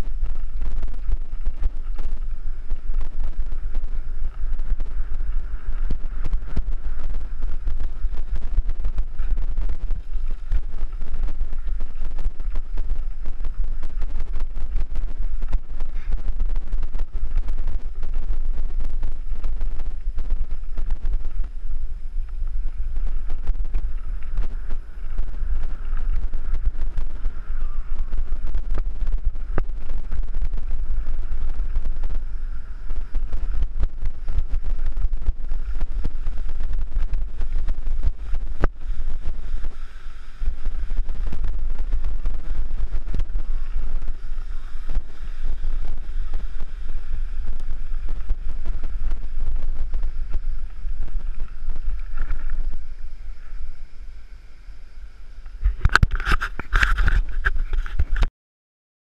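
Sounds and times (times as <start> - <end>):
bike tyres rattling over gravel: 0.0 - 54.2
low rumble: 0.0 - 58.3
wind buffeting microphone: 0.0 - 58.3.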